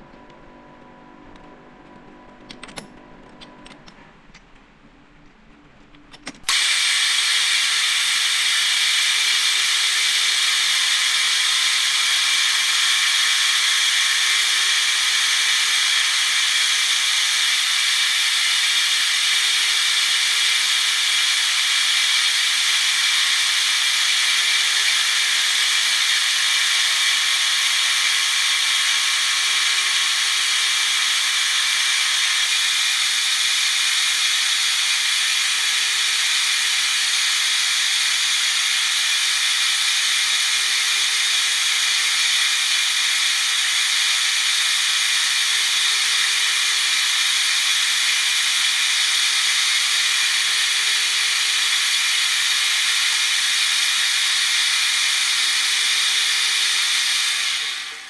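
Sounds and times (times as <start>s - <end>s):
metalworking power tool hissing: 6.5s - 58.0s.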